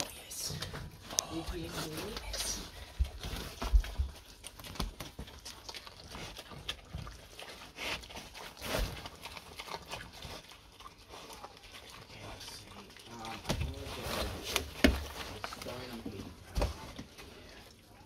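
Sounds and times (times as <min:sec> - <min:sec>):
pig crunching food: 0:00.0 - 0:18.0.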